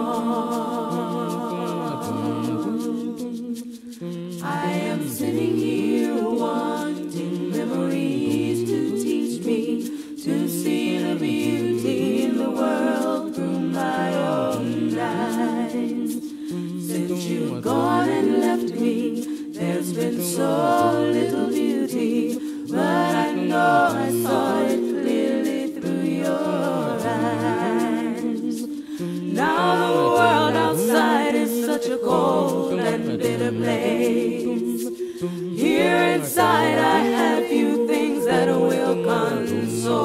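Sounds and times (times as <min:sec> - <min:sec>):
voices singing in harmony: 0:00.0 - 0:40.0.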